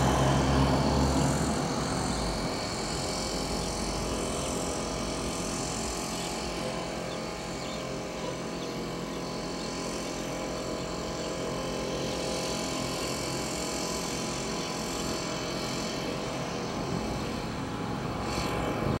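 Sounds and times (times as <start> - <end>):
leaf blower running: 0.0 - 19.0.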